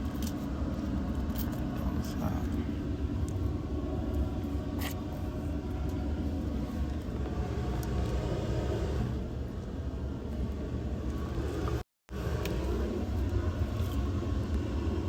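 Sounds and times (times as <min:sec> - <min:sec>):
motorboat engine rumble: 0:00.0 - 0:15.0.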